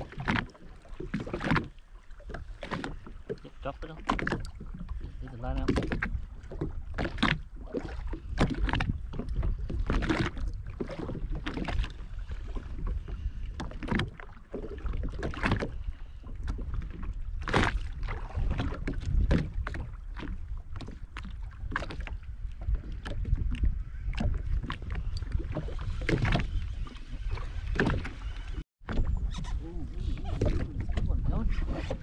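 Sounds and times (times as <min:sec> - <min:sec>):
water slapping against hull: 0:00.0 - 0:32.0
wind rumbling on microphone: 0:00.0 - 0:32.0.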